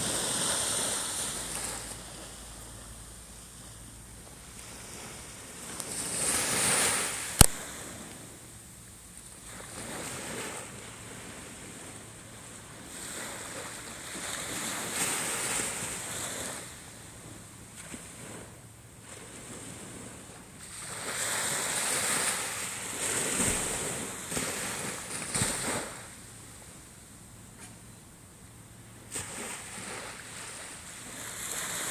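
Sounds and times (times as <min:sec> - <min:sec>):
small waves breaking on shore: 0:00.0 - 0:27.0, 0:28.8 - 0:31.9.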